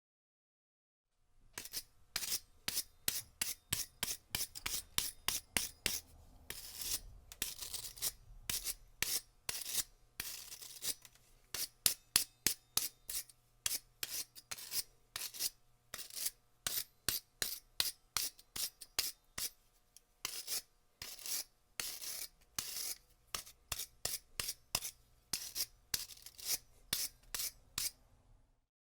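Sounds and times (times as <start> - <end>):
wire brush scrubbing metal: 1.6 - 17.6, 20.2 - 28.0.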